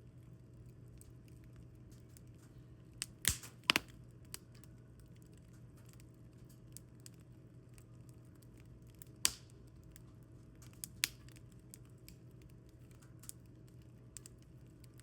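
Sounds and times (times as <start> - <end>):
firewood crackling and popping: 0.2 - 15.0.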